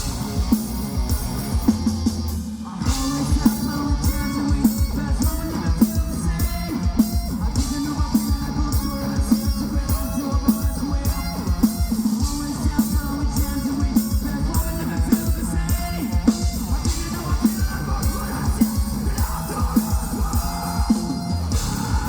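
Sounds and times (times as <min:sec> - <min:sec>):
metal band playing: 0:00.0 - 0:22.0.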